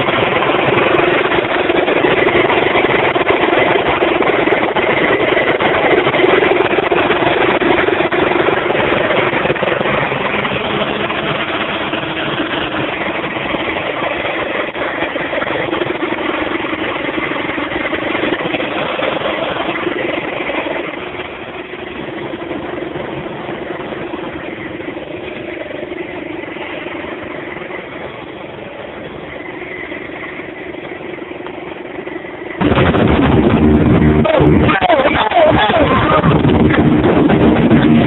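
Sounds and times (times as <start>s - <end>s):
outboard motor running: 0.0s - 38.0s
sudden loud noise: 0.0s - 38.0s.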